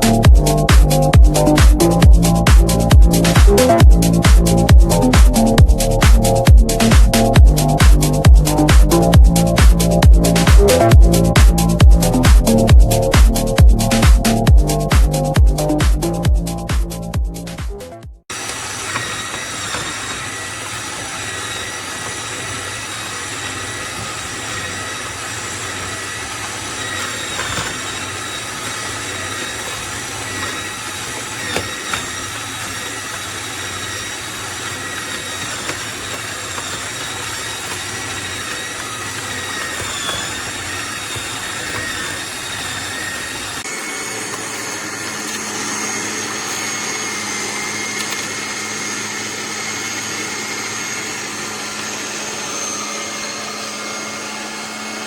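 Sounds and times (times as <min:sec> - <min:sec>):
electric juicer motor whining: 0:00.0 - 0:55.0.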